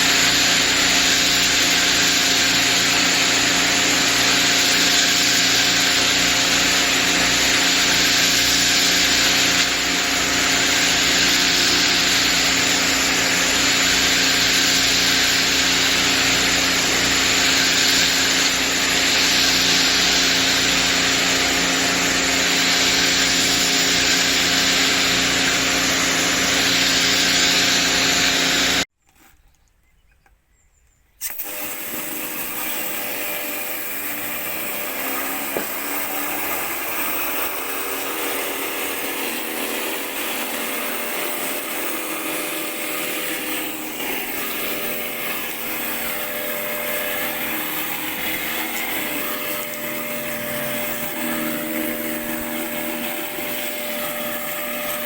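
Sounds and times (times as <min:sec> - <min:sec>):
pressure washer running: 0:00.0 - 0:28.9, 0:31.2 - 0:55.0.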